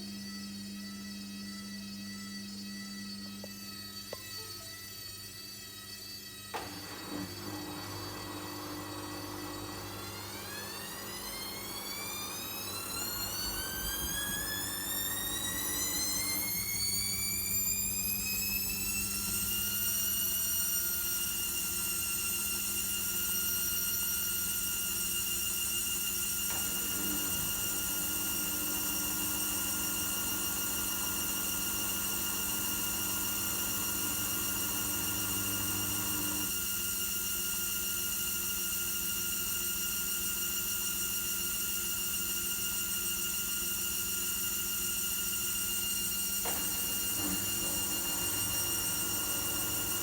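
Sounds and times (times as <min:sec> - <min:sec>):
washing machine motor whine: 0:00.0 - 0:50.0.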